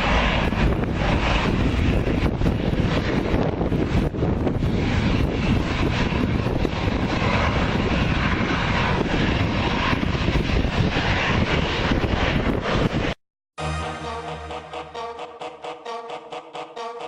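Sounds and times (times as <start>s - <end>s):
jet engines roaring: 0.0s - 16.8s.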